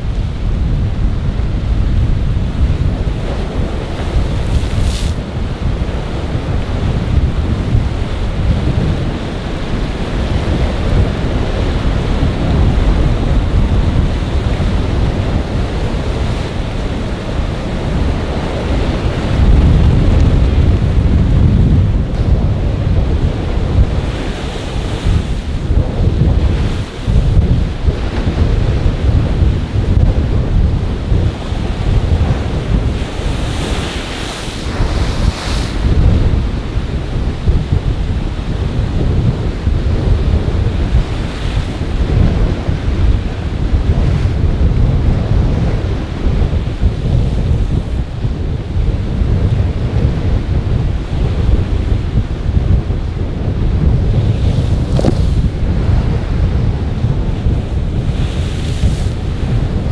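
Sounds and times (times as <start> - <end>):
rough surf: 0.0 - 59.9
waves breaking: 0.0 - 59.9
wind buffeting microphone: 0.0 - 59.9.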